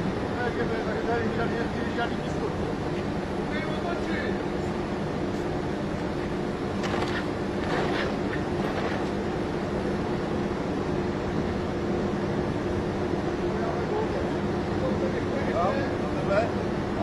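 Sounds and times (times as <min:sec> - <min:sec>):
steel mill machinery drone: 0:00.0 - 0:17.0.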